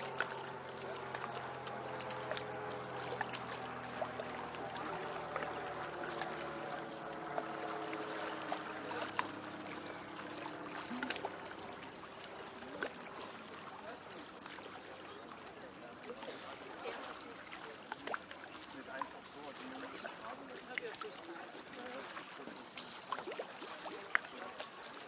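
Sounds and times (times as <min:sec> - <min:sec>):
faint low engine hum: 0:00.0 - 0:25.0
lake waves lapping on pilings: 0:00.0 - 0:25.0.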